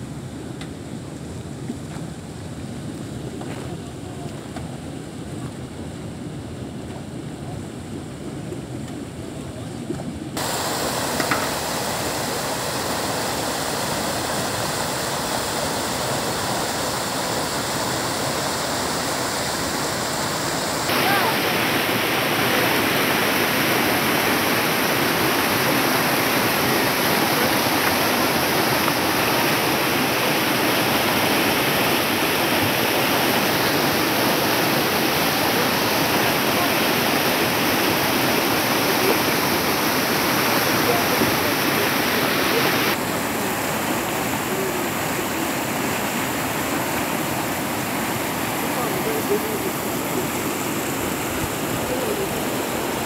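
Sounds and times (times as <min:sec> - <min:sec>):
water rushing from culvert pipes: 0:10.4 - 0:53.0.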